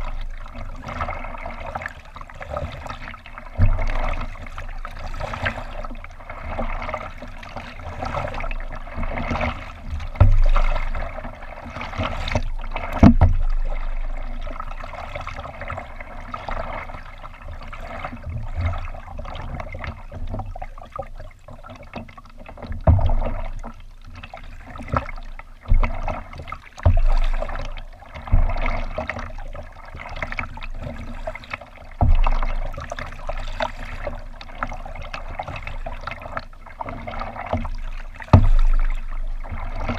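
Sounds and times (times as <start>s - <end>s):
small waves slapping bow: 0.0s - 39.9s
water lapping against kayak hull: 0.0s - 39.9s.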